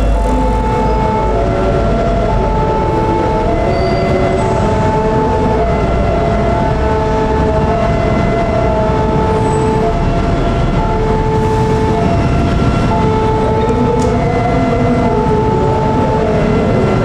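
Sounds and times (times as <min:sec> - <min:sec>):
level crossing warning alarm: 0:00.0 - 0:17.0
train rumbling: 0:00.0 - 0:17.0.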